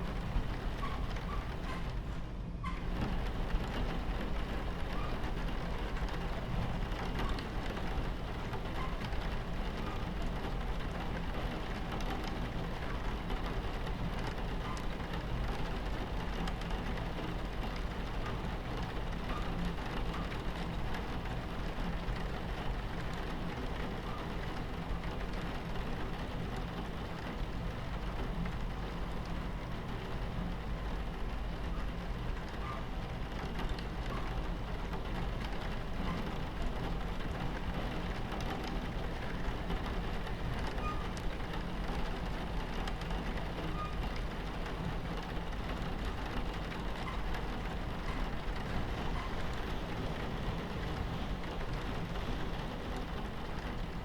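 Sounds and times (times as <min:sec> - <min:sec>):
moving train rumble: 0:00.0 - 0:54.0
rain drops ticking on window: 0:00.0 - 0:54.0.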